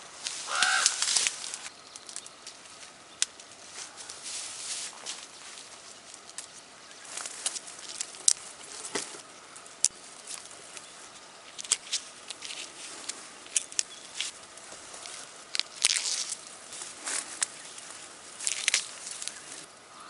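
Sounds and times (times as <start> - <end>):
leaves rustling: 0.0 - 20.0
stalks snapping: 0.2 - 4.2, 6.1 - 10.9, 11.5 - 19.7.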